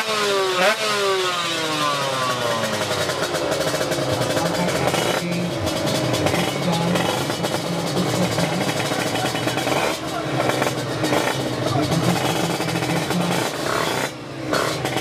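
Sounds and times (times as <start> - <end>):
two-stroke engine revving and idling: 0.0 - 15.0.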